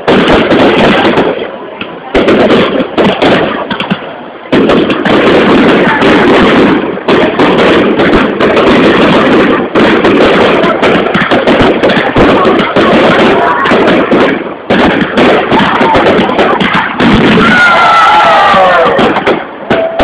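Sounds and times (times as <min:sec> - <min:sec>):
fireworks bangs and crackle: 0:00.0 - 0:20.0.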